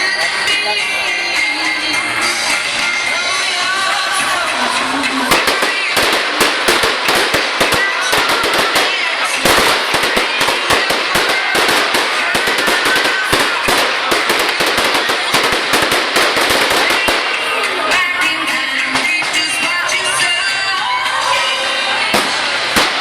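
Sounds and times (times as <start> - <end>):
fireworks crackling barrage: 0.0 - 23.0.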